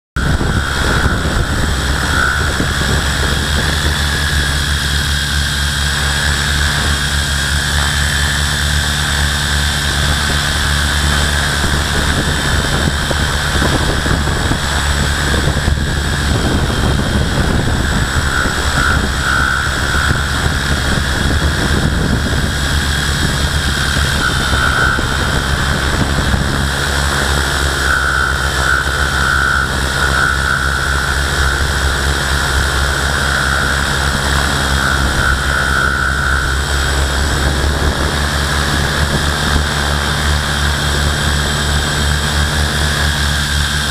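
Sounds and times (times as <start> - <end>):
drone propellers whirring: 0.0 - 43.9.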